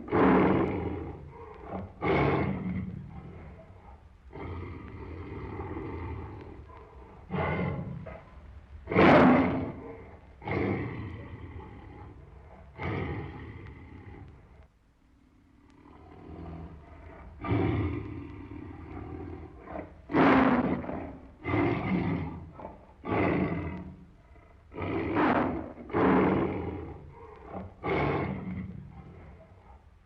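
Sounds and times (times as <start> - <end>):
tiger roaring: 0.0 - 14.7, 15.4 - 29.9.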